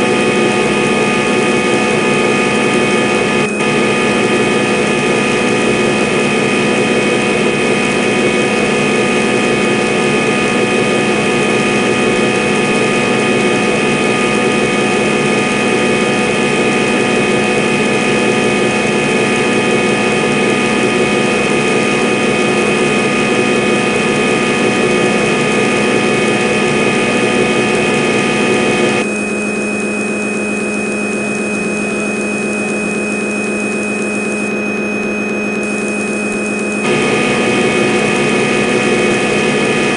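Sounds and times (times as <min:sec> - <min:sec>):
machine hum: 0:00.0 - 0:29.3, 0:31.3 - 0:39.9
lathe machine whine: 0:00.0 - 0:39.9.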